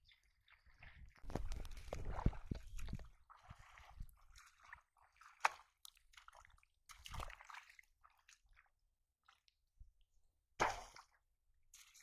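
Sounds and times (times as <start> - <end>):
wading through shallow water: 0.0 - 12.0.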